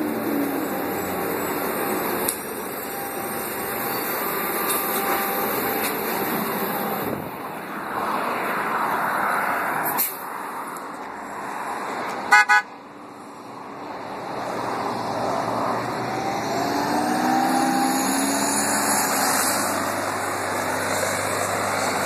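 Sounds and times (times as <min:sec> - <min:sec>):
bus cabin engine noise: 0:00.0 - 0:22.0.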